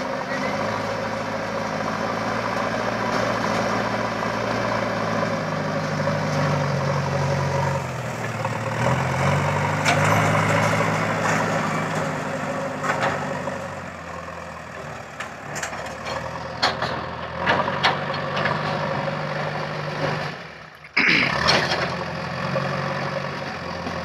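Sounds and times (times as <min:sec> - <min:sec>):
diesel engine working under load: 0:00.0 - 0:24.0.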